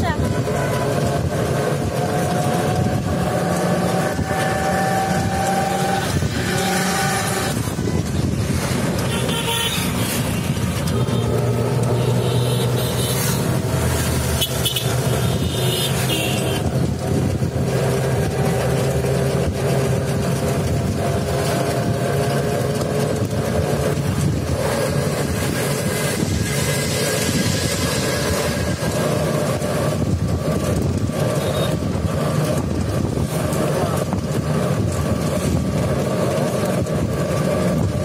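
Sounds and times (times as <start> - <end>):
engine drone: 0.0 - 38.0
road noise: 0.0 - 38.0.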